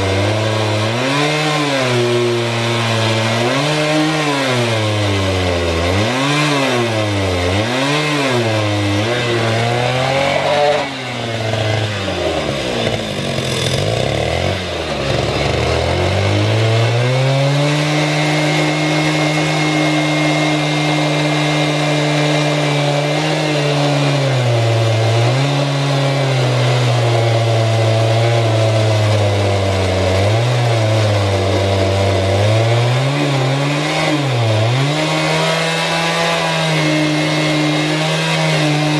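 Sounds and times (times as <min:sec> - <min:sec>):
chainsaw ripping a log: 0:00.0 - 0:38.9.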